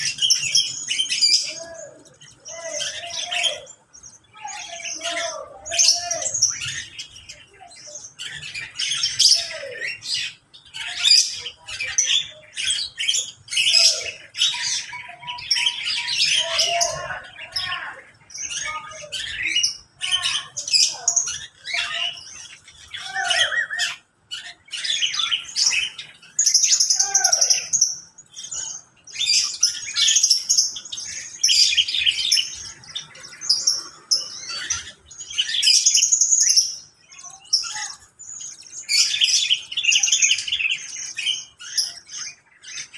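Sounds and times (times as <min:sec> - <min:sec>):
flock of birds calling: 0:00.0 - 0:42.9.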